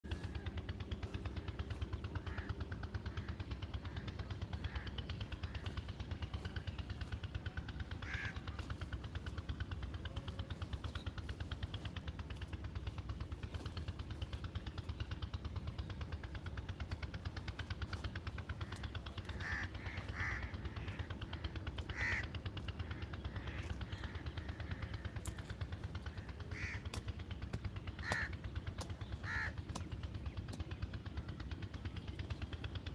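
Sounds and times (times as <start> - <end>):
bird calling: 0.0 - 32.9
low rumble: 0.0 - 32.9
fast pulsing background: 0.1 - 32.9.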